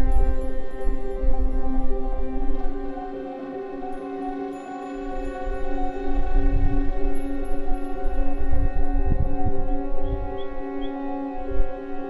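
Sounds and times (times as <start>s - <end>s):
ambient drone pad music: 0.0s - 12.0s.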